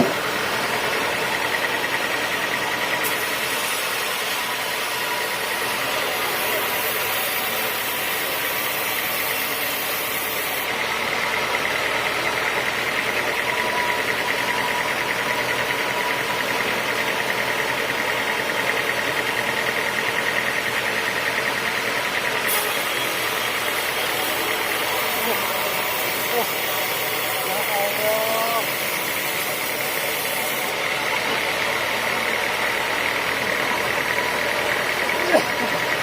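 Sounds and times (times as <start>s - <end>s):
constant machine whine: 0.0s - 36.0s
sawmill machinery running: 0.0s - 36.0s.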